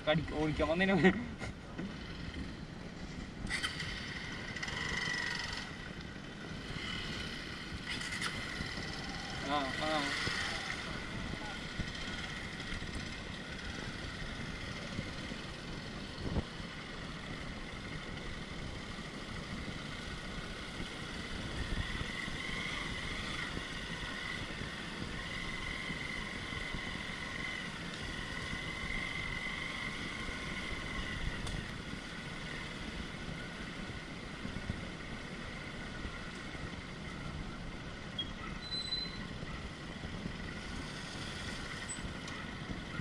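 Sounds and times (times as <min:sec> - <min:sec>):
off-road vehicle engine: 0:00.0 - 0:43.0.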